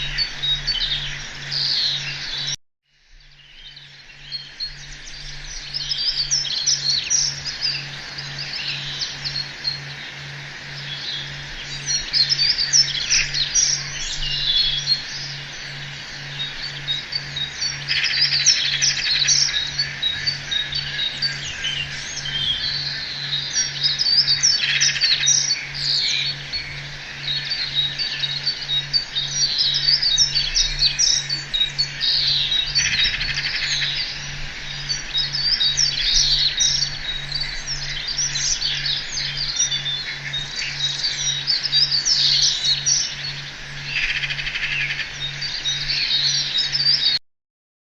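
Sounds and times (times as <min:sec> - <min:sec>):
low pulsing hum: 0:00.0 - 0:47.2
songbirds chirping and trilling: 0:00.0 - 0:47.2.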